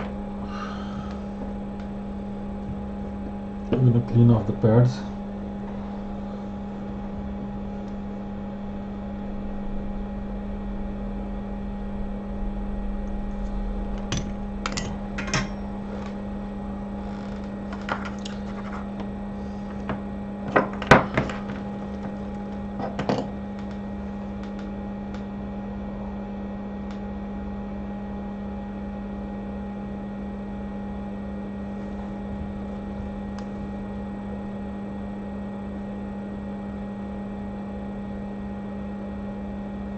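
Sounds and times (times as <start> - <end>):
electrical equipment hum: 0.0 - 39.9.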